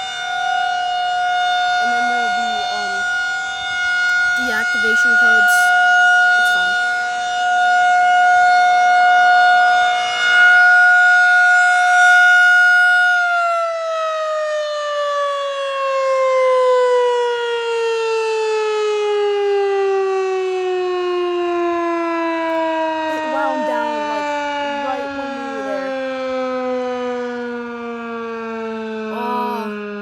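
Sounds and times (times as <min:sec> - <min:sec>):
warning siren winding down: 0:00.0 - 0:30.0.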